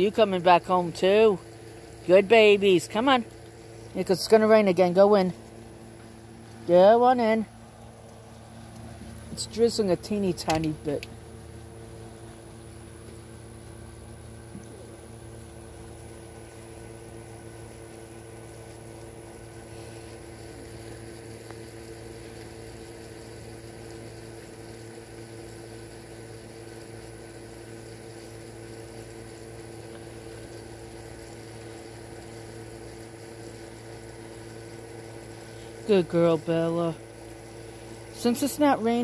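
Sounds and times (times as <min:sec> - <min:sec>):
steady machine hum: 0:00.0 - 0:39.0.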